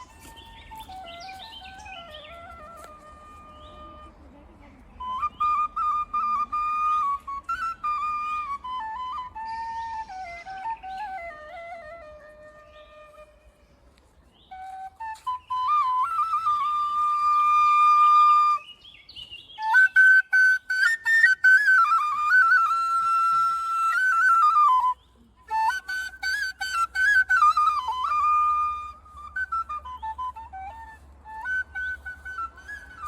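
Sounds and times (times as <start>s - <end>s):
solo flute melody: 0.0s - 33.0s.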